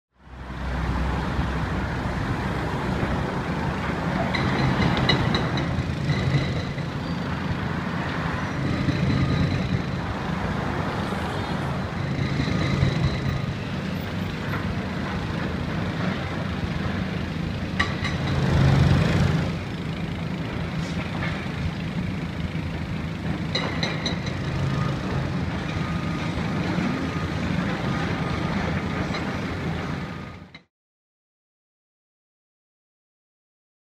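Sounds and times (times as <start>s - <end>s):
excavator diesel engine running: 0.3s - 30.6s.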